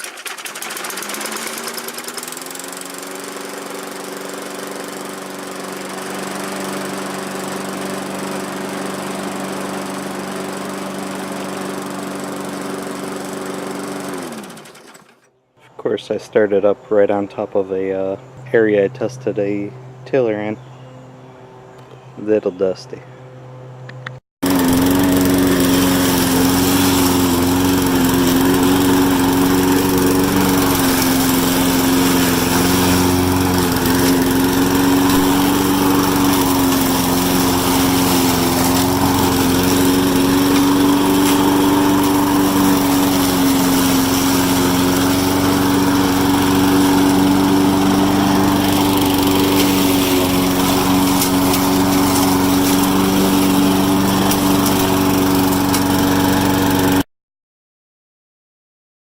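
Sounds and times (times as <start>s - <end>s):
lawn mower engine running: 0.0s - 15.3s, 24.1s - 57.0s.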